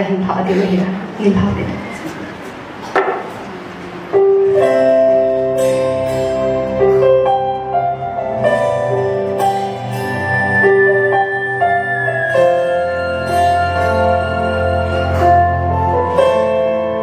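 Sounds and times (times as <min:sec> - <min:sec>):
electronic keyboard chords: 0:02.7 - 0:17.0.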